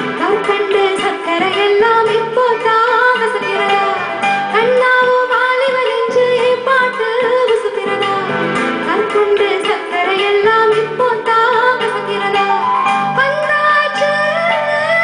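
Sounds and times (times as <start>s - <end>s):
keyboard and band accompaniment: 0.0s - 15.0s
woman singing into a microphone: 0.0s - 15.0s.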